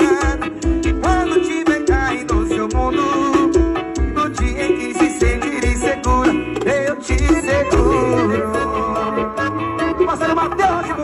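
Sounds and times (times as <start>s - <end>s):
music with heavy bass beat: 0.0s - 11.0s.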